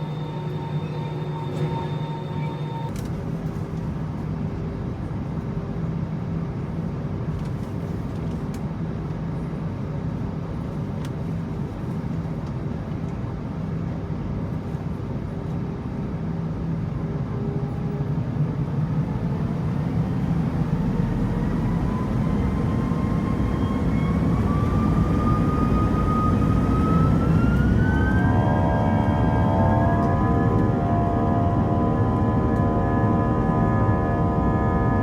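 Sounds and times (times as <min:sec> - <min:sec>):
jet airliner engines running: 0:00.0 - 0:35.0.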